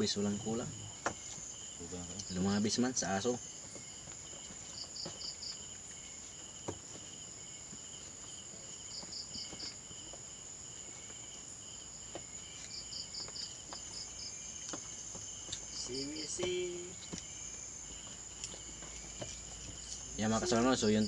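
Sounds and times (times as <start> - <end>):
cricket chirps: 0.0 - 21.0
insects trilling: 0.0 - 21.0.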